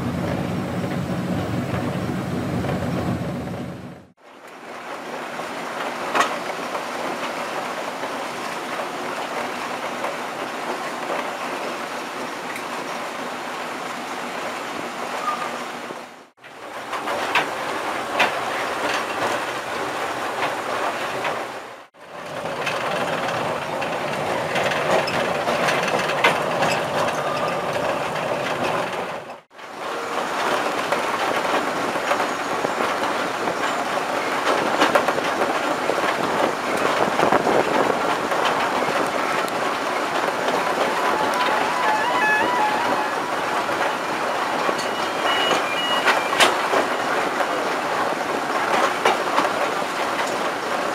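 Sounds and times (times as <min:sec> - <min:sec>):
locomotive engine and wheel noise: 0:00.0 - 0:50.9.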